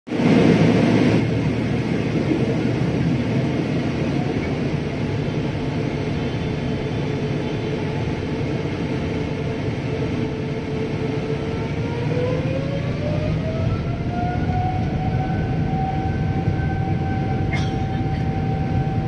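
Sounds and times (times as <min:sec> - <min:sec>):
jet engine rumble: 0:00.1 - 0:19.0.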